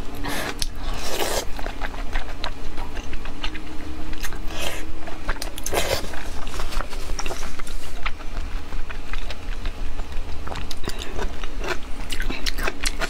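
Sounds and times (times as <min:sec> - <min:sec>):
wet chewing and slurping: 0:00.0 - 0:13.0.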